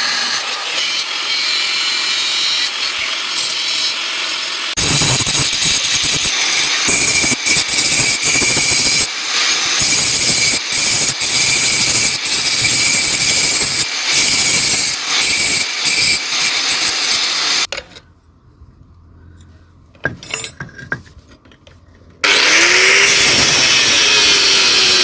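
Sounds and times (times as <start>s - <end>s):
electric grinder grinding steel: 0.0s - 17.7s, 22.2s - 25.0s.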